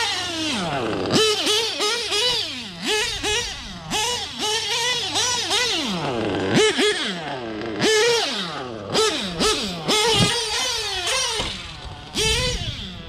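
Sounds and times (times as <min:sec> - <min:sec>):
nitro engine revving: 0:00.0 - 0:13.0.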